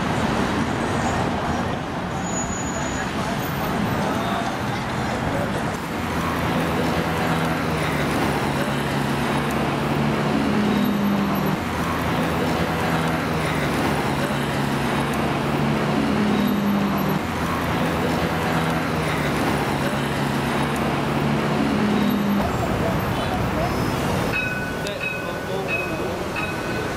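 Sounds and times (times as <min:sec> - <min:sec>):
passing cars and buses: 0:00.0 - 0:26.9.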